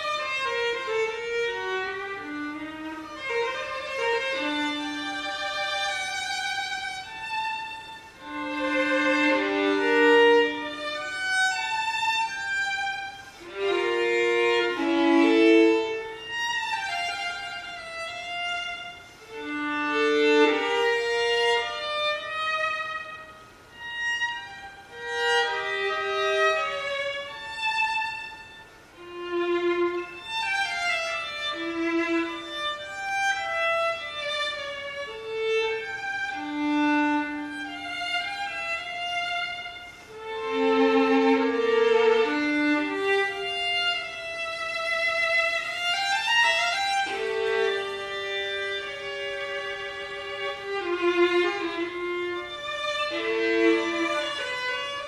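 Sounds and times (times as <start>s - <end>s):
solo violin playing: 0.0s - 55.0s.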